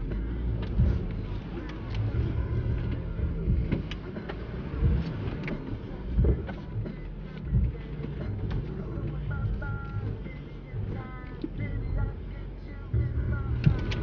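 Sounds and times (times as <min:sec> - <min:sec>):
body and suspension rattles: 0:00.0 - 0:11.8
car engine running low: 0:00.0 - 0:14.0.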